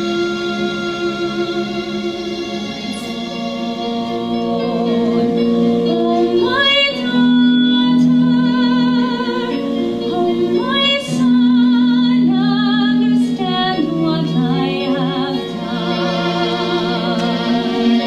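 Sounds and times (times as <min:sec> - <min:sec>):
sustained instrumental accompaniment: 0:00.0 - 0:18.0
woman singing with vibrato: 0:00.0 - 0:18.0.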